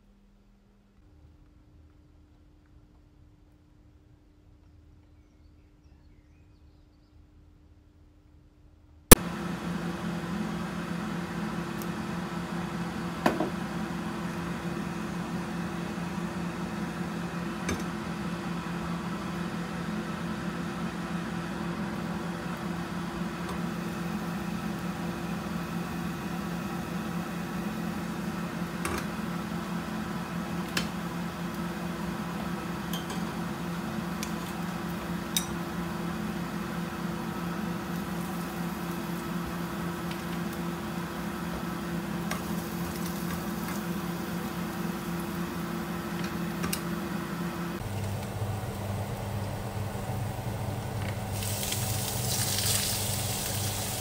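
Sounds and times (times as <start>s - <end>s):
extractor fan humming: 9.1s - 54.0s.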